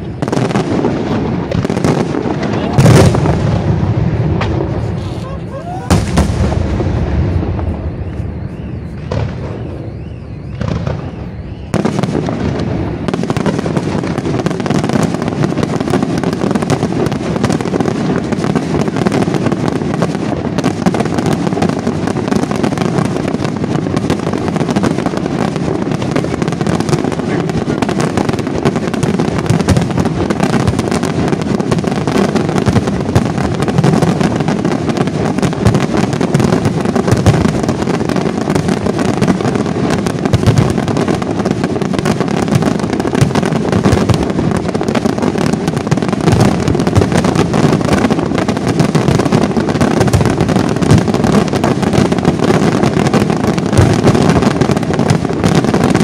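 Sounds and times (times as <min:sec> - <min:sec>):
fireworks bursts and crackles: 0:00.0 - 0:56.0
sharp fireworks bangs: 0:00.0 - 0:56.0.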